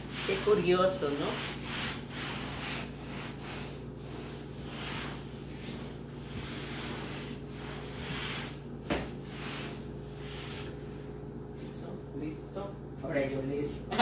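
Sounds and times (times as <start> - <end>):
cloth wiping a tabletop: 0.0 - 11.8.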